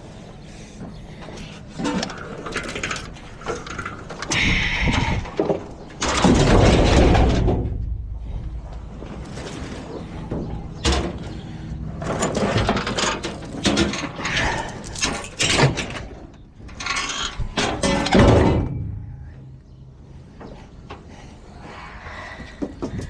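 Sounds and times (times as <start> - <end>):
junk clanking and knocking: 0.8 - 19.7.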